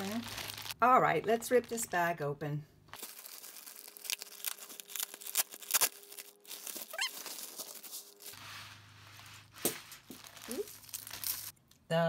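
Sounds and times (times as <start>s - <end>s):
plastic bag crinkling: 0.0s - 1.8s, 3.0s - 11.6s.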